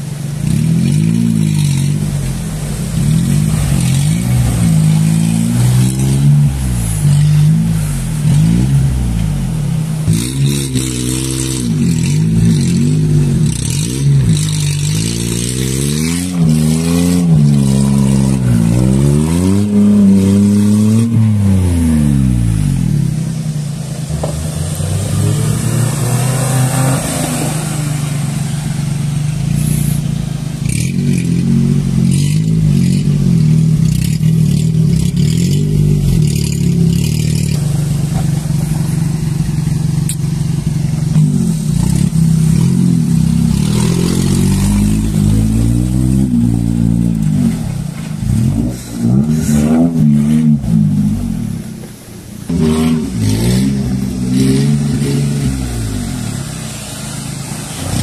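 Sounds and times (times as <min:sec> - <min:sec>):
petrol engine revving under load: 0:00.0 - 0:58.0
water splashing from wheels: 0:00.0 - 0:58.0.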